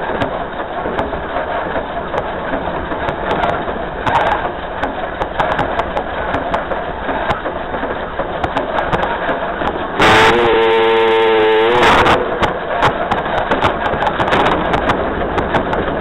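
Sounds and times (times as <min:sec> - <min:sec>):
clicks and knocks: 0:00.0 - 0:10.0, 0:12.4 - 0:16.0
train wheels rumbling on rail: 0:00.0 - 0:16.0.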